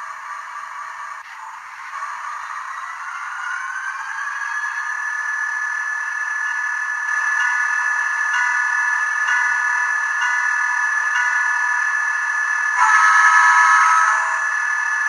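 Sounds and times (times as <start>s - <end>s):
model locomotive diesel engine sound: 0.0s - 15.0s.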